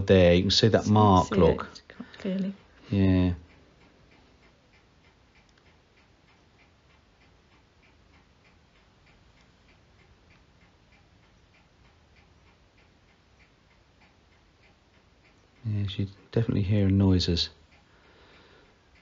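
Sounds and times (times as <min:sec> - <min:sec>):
faint evenly spaced ticks: 0:00.0 - 0:19.0.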